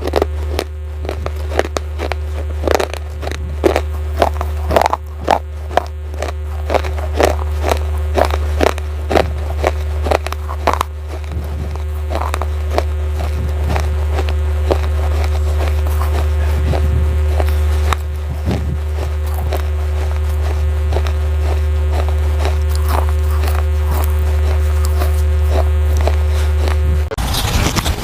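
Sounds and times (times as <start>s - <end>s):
clay pieces being chewed: 0.0s - 26.8s
steady low hum: 0.0s - 28.0s.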